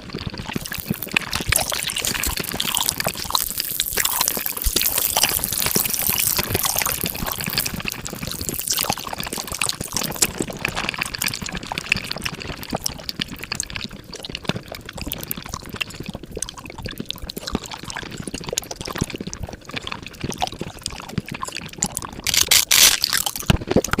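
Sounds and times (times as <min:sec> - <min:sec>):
sped-up wet chewing and slurping: 0:00.0 - 0:24.0.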